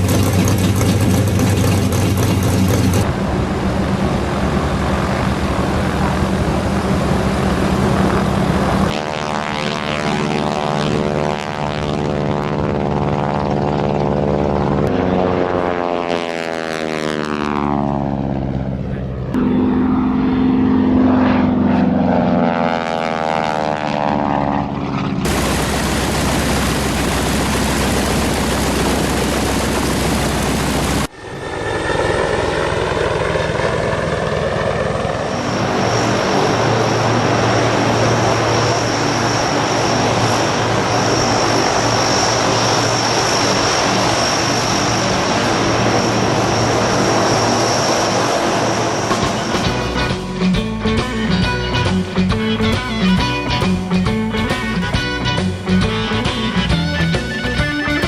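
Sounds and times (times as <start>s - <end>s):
propeller aircraft engines running: 0.0s - 58.0s.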